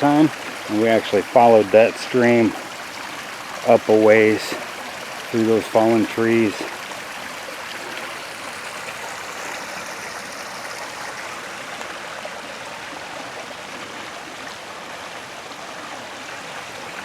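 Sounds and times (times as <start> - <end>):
stream splashing over waterfall: 0.0 - 17.0.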